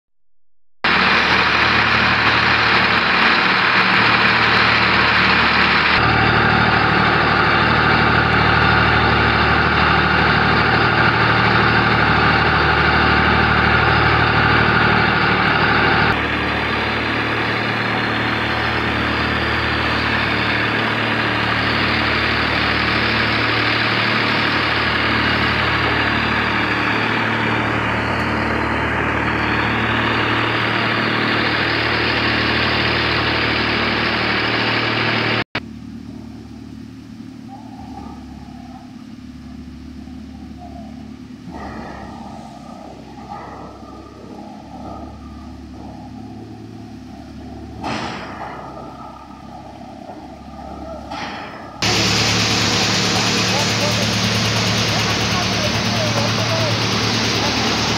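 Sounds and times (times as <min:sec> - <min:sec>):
paddy thresher running: 0:00.8 - 0:57.9
tractor diesel engine running: 0:00.8 - 0:57.9.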